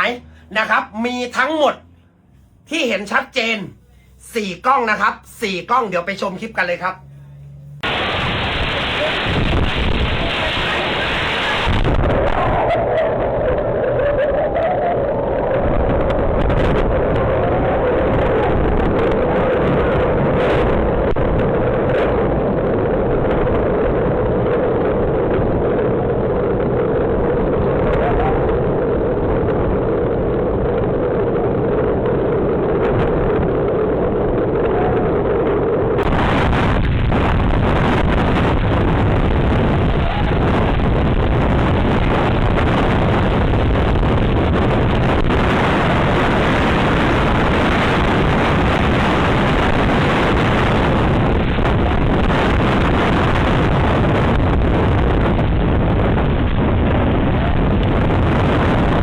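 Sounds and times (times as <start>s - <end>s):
steady hum: 0.0s - 14.2s, 15.1s - 59.0s
storm wind and rain rushing: 4.7s - 59.0s.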